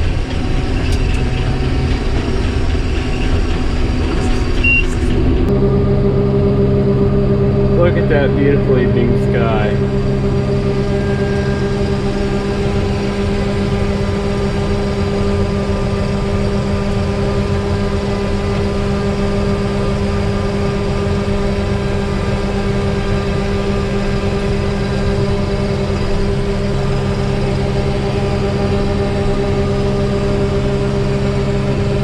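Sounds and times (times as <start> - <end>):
combine harvester drone: 0.0 - 32.0.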